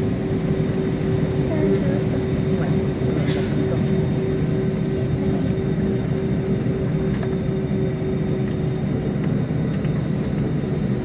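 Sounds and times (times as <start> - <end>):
jet engines roaring in cabin: 0.0 - 11.0.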